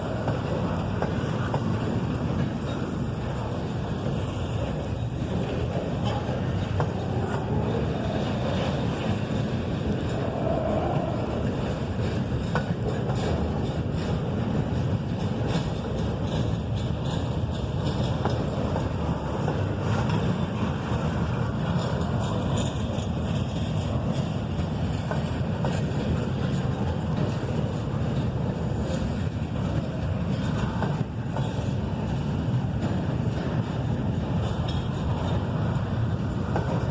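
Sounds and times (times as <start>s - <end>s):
train wheels rumbling on rails: 0.0s - 36.9s.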